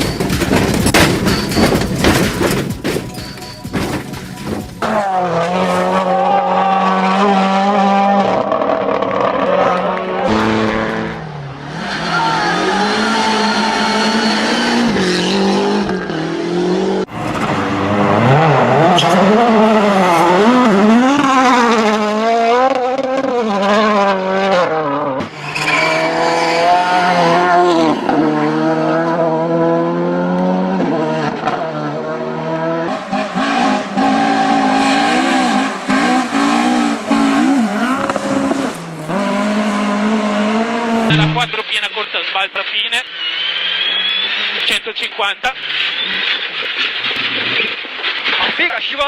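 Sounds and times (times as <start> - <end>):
rally car engines at full throttle: 0.0 - 49.0.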